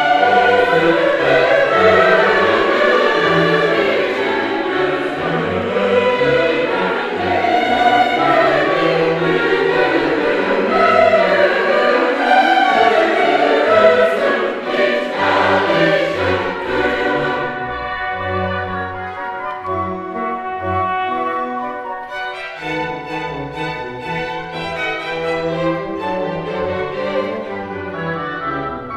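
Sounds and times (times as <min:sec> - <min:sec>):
choir singing: 0:00.0 - 0:28.9
instrumental accompaniment: 0:00.0 - 0:28.9.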